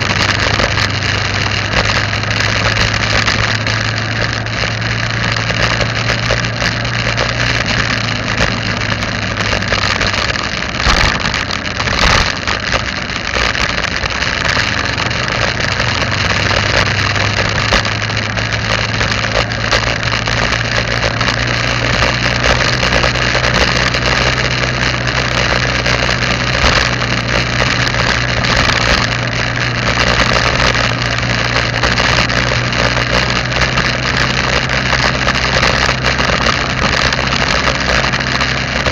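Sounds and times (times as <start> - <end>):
road and wind noise: 0.0 - 38.9
vehicle engine humming: 0.0 - 38.9.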